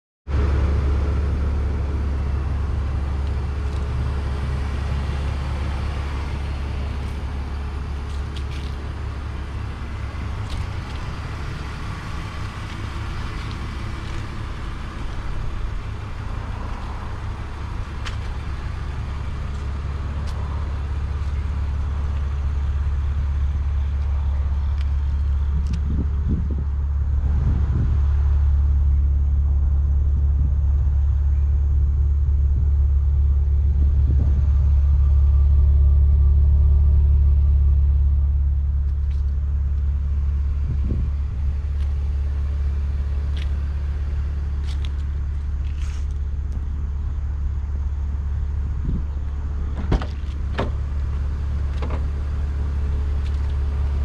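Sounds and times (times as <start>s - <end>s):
car engine idling: 0.3s - 54.0s.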